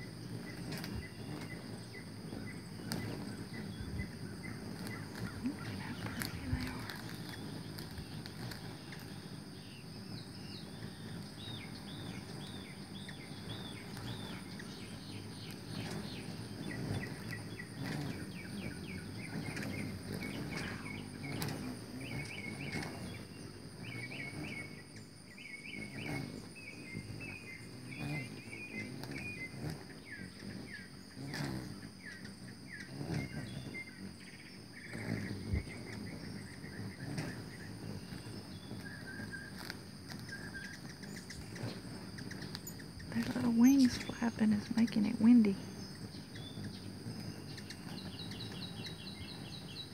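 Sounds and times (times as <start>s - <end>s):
high-pitched insect drone: 0.0s - 49.9s
hummingbird wings humming: 0.0s - 49.9s.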